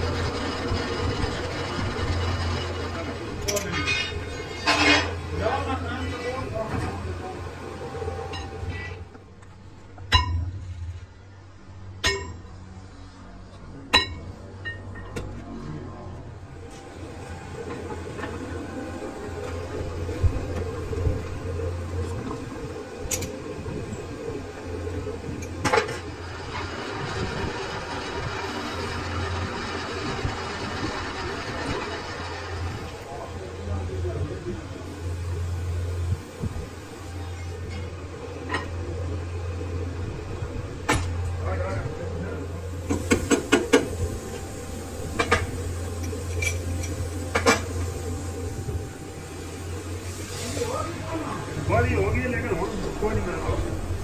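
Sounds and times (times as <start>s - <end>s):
lathe humming: 0.0s - 9.9s, 16.5s - 54.0s.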